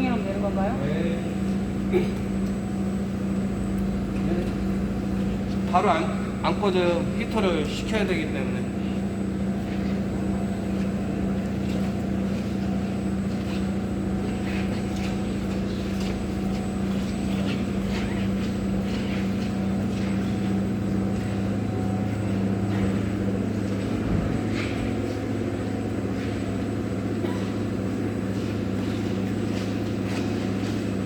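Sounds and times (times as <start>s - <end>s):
machine humming: 0.0s - 31.0s.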